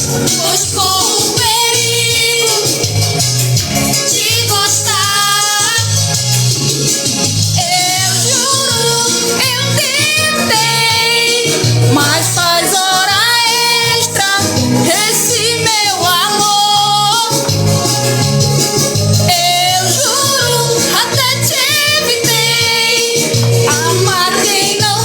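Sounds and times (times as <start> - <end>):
pop music beat with bass: 0.0 - 25.0
woman singing: 0.2 - 3.1, 3.9 - 6.1, 7.6 - 17.6, 18.8 - 25.0.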